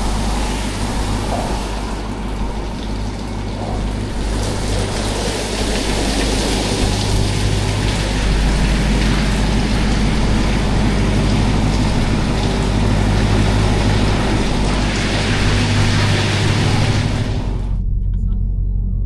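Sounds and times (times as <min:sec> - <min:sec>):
water jets drumming on car: 0:00.0 - 0:17.8
car engine idling: 0:00.0 - 0:18.5.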